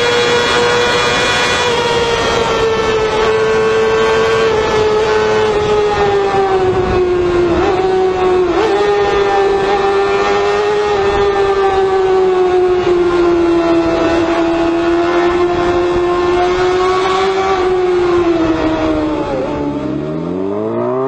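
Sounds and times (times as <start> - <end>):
motorcycle engine revving high: 0.0 - 21.0.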